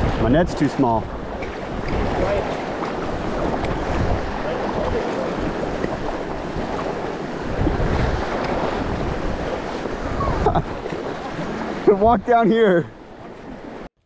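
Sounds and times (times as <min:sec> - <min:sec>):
river water flowing: 0:00.0 - 0:13.9
wind buffeting microphone: 0:00.0 - 0:13.9.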